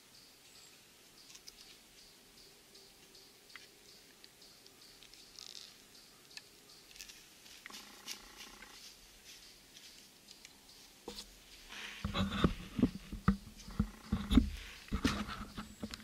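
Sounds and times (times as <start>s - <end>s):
crackles in dry leaves: 3.0s - 16.0s.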